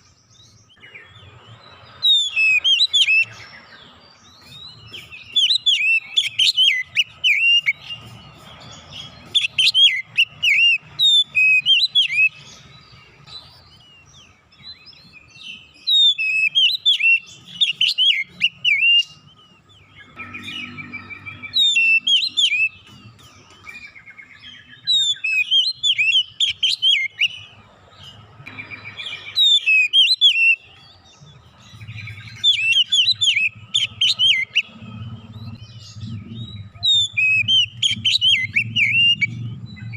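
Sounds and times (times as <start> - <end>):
bird singing whistled chirps: 0.0 - 39.9.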